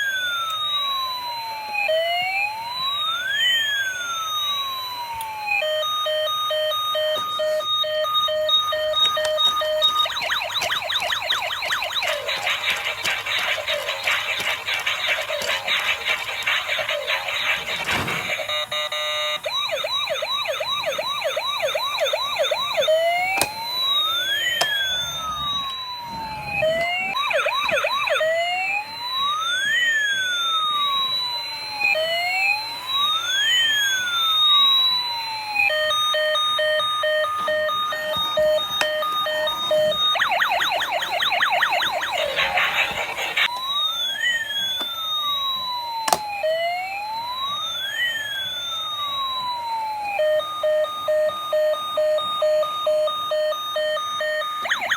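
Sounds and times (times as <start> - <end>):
electronic toy siren: 0.0 - 54.9.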